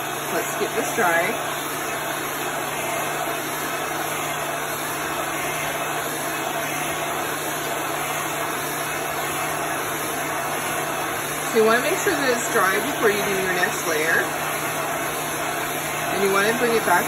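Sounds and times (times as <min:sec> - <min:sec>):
hot-air blower running: 0:00.0 - 0:17.0.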